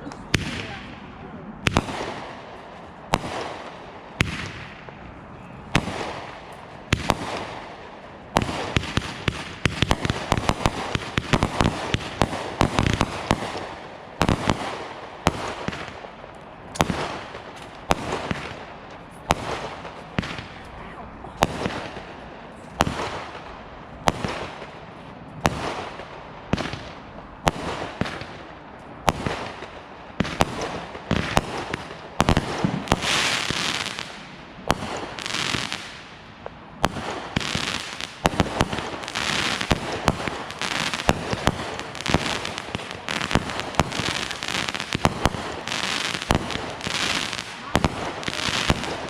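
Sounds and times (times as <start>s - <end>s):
fireworks bangs: 0.0s - 49.0s
fireworks crackling and hissing: 0.0s - 49.0s.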